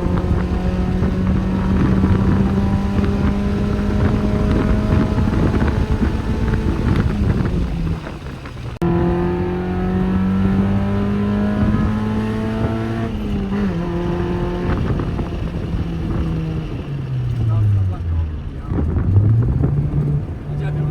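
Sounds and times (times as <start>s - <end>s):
car engine running under load: 0.0s - 20.9s.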